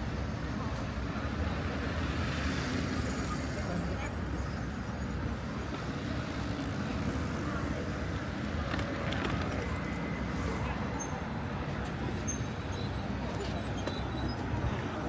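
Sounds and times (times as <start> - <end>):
faint voices of passers-by: 0.0 - 15.0
passing cars hum: 0.0 - 15.0.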